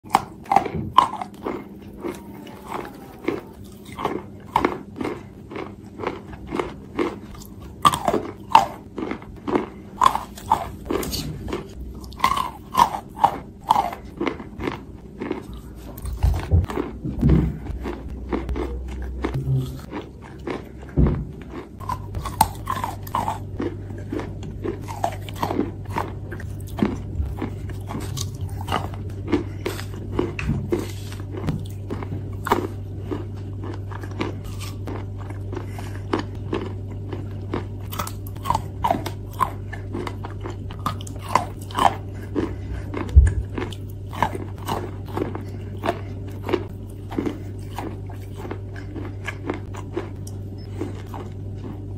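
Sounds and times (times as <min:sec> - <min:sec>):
wet crunching and chewing: 0:00.0 - 0:51.9.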